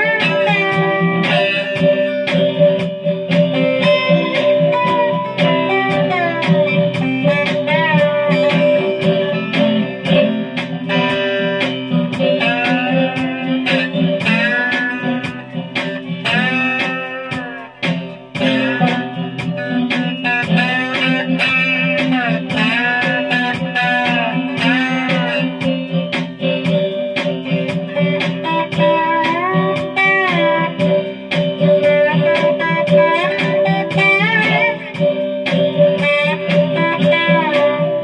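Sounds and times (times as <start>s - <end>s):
slide guitar playing: 0.0s - 38.0s.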